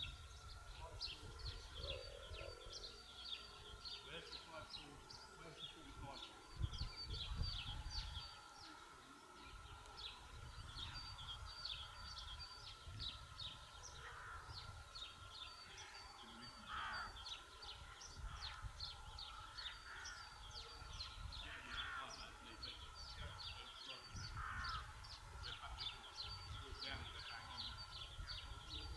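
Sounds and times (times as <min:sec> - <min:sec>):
wind rumble on microphone: 0:00.0 - 0:04.0, 0:05.8 - 0:08.5, 0:09.4 - 0:15.5, 0:17.1 - 0:28.9
lower bird calls: 0:00.0 - 0:28.9
small birds chirping: 0:00.0 - 0:28.9.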